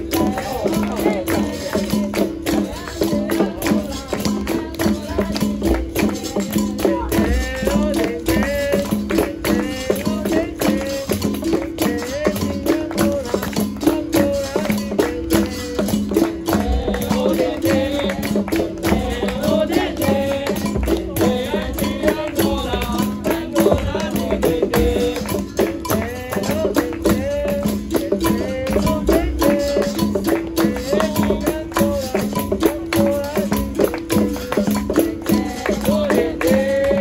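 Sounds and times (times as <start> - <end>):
group singing: 0.0 - 37.0
hand drum strikes: 0.0 - 37.0
shaker rattle: 0.0 - 37.0
tambourine jingles: 0.0 - 37.0.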